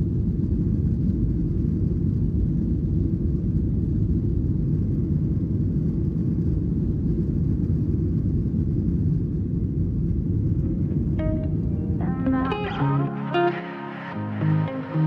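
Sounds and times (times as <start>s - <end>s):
airplane cabin engine rumble: 0.0s - 13.1s.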